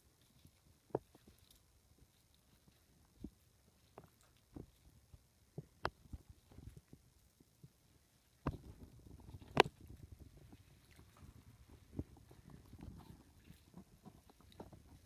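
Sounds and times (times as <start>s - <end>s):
soft rustling and squishing: 0.0s - 15.0s.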